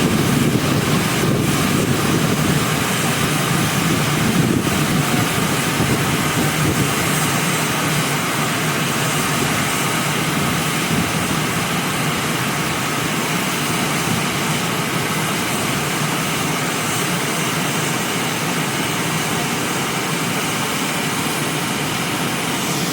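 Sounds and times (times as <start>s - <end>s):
car wash machine rushing: 0.0s - 22.9s.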